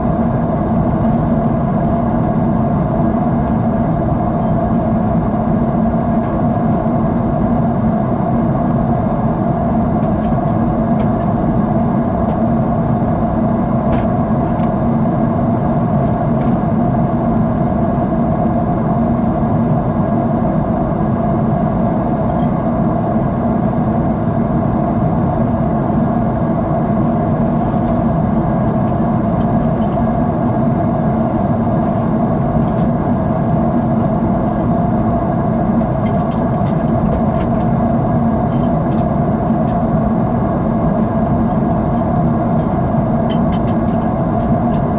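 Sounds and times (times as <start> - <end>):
jet engines and airflow roar: 0.0 - 44.9
low cabin hum: 0.0 - 44.9.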